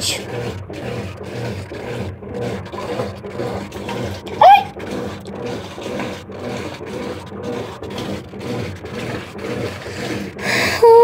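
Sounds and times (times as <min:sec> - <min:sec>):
washing machine agitating: 0:00.0 - 0:11.0
water sloshing: 0:00.0 - 0:11.0.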